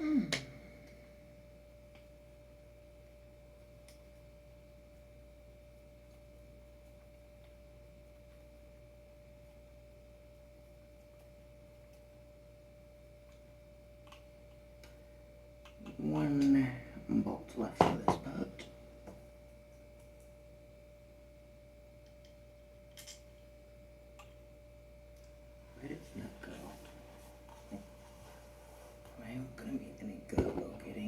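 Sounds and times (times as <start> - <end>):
faint steady tone: 0.0 - 31.0.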